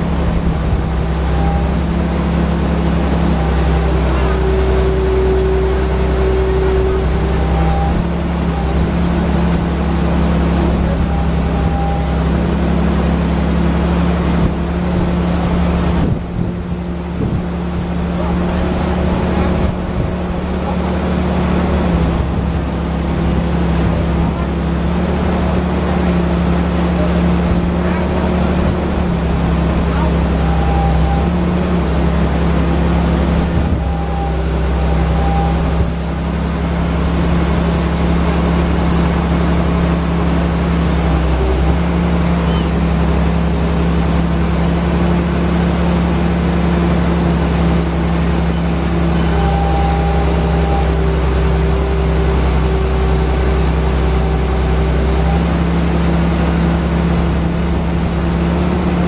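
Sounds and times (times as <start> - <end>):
diesel engine running: 0.0 - 59.0
hydraulic arm working bucket: 0.0 - 59.0.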